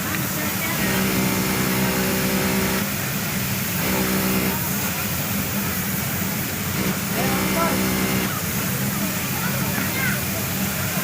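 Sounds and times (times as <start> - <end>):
workshop noise: 0.0 - 11.0.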